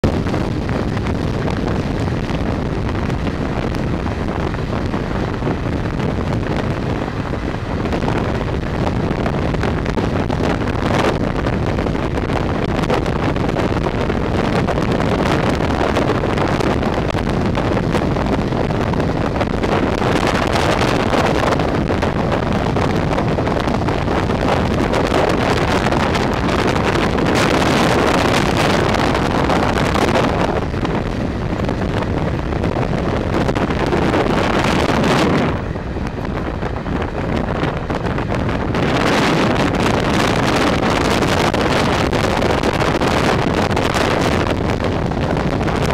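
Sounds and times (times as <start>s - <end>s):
train wheels rumbling on rails: 0.0s - 45.9s
wind rushing on microphone: 0.0s - 45.9s.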